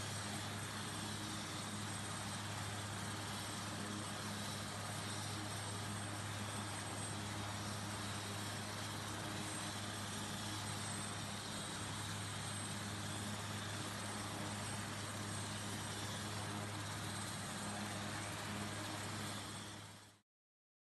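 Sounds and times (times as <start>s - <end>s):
helicopter idling: 0.0s - 20.2s.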